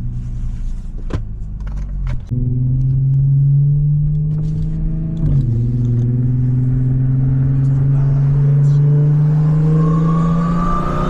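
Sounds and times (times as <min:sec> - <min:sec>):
car engine accelerating: 0:01.3 - 0:11.0.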